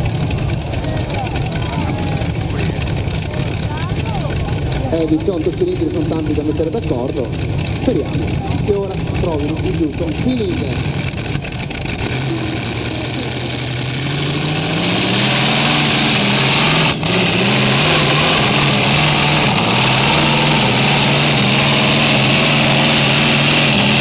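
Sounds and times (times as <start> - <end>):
pulling tractor engine revving: 0.0 - 24.0.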